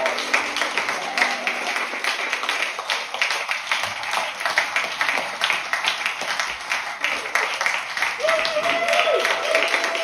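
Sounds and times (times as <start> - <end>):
small audience applauding: 0.0 - 10.0.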